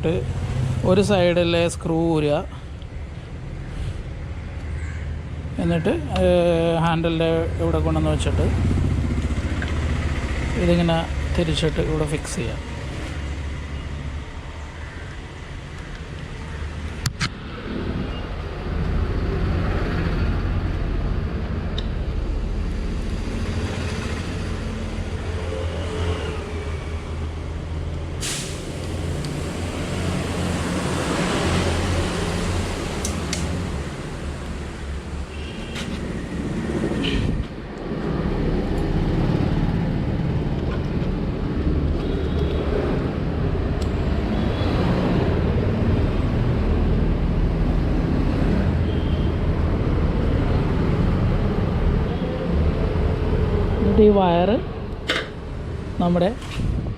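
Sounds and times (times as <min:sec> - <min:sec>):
low traffic-like rumble: 0:00.0 - 0:56.9.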